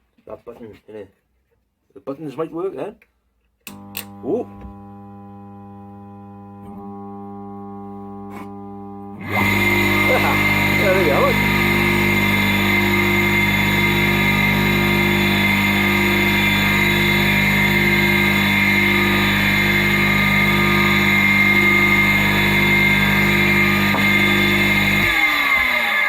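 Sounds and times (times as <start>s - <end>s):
electric motor hum and whine: 3.7s - 26.0s
motor spinning down: 3.7s - 26.0s.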